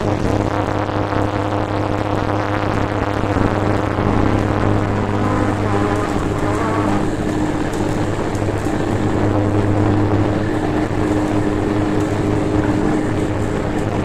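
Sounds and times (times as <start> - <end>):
turboprop cabin engine drone: 0.0 - 14.0.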